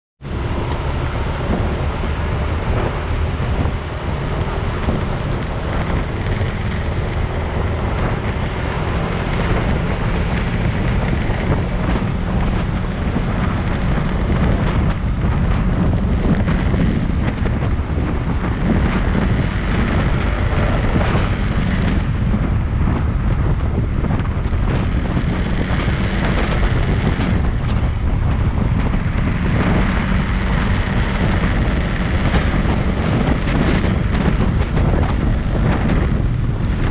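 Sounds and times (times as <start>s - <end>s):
motorcycle engine rumble: 0.2s - 36.9s
road noise: 0.2s - 36.9s
wind buffeting microphone: 0.2s - 36.9s.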